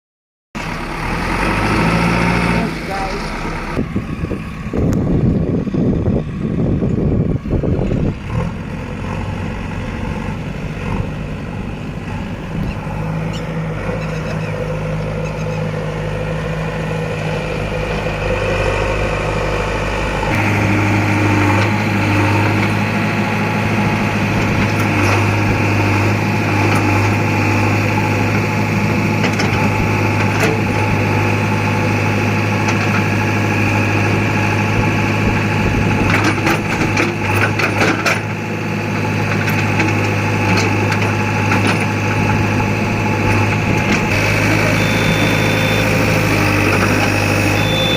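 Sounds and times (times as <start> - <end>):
diesel engine running: 0.6 - 47.9.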